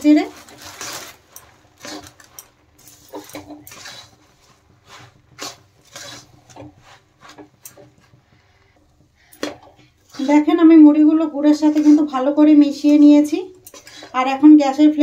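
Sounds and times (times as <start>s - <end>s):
steel spoon scraping metal pan: 0.2s - 8.2s, 9.4s - 14.2s.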